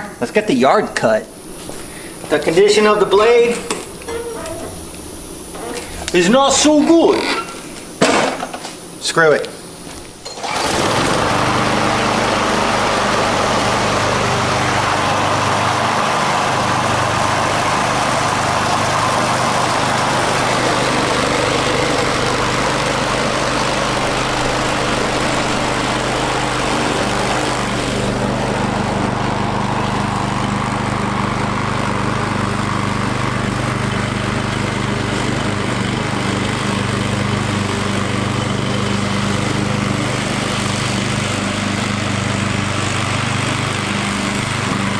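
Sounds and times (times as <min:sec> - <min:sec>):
lawn mower engine running: 0:01.4 - 0:09.0, 0:09.7 - 0:44.9.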